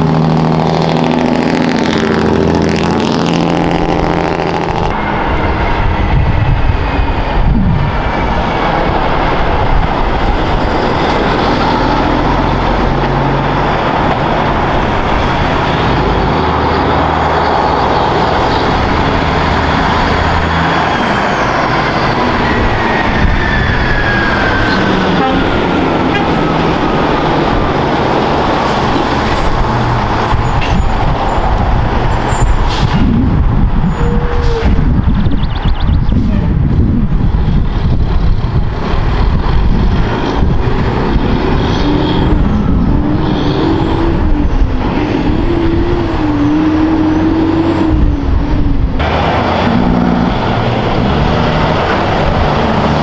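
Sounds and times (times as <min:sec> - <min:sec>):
cars passing: 0:00.0 - 0:53.0
diesel trucks passing: 0:00.0 - 0:53.0.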